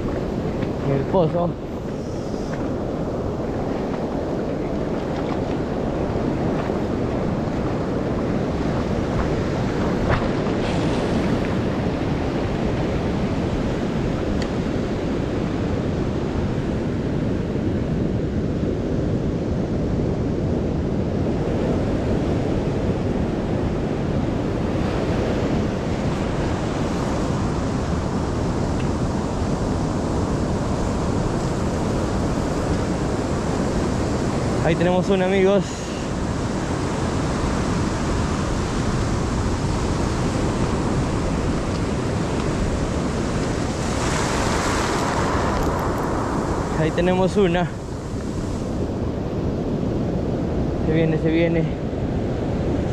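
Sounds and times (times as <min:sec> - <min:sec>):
ocean surf: 0:00.0 - 0:52.9
wind buffeting microphone: 0:00.0 - 0:52.9.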